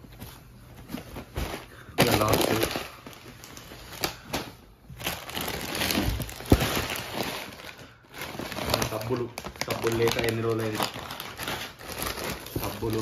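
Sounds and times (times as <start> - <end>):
plastic snack packets crinkling: 1.4 - 13.0.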